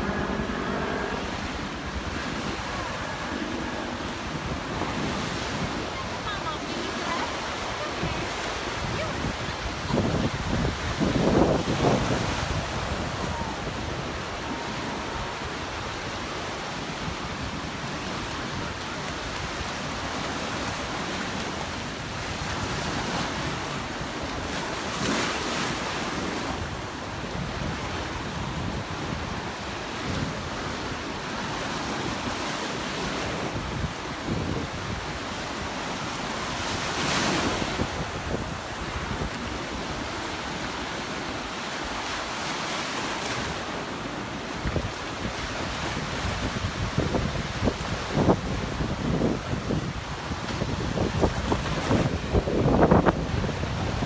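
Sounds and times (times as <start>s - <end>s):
surf washing onto beach: 0.0s - 54.0s
waves breaking: 0.0s - 54.0s
wind buffeting microphone: 0.0s - 54.0s.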